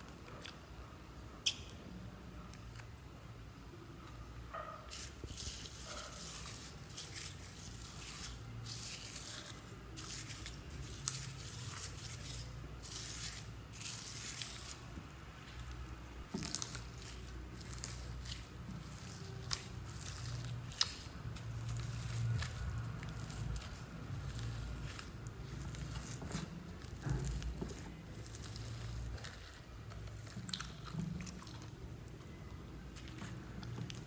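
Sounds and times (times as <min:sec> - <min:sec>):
slime squelching and crackling: 0:04.9 - 0:34.0.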